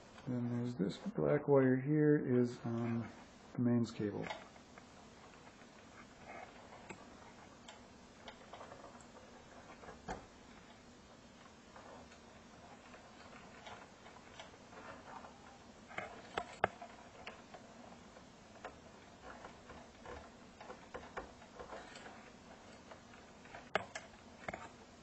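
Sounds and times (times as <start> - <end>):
wires and connectors clicking: 4.2 - 25.0.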